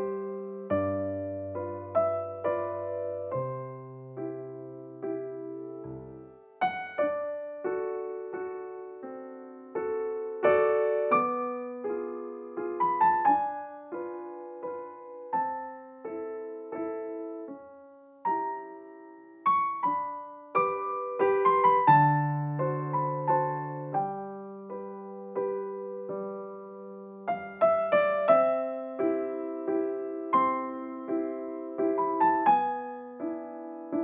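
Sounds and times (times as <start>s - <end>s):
gentle solo piano melody: 0.0s - 34.0s.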